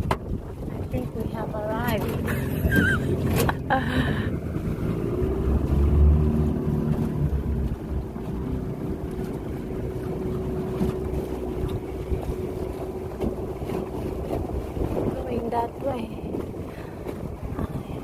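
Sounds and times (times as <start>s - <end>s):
motorboat engine running: 0.0s - 18.0s
wind rumbling on microphone: 0.0s - 18.0s.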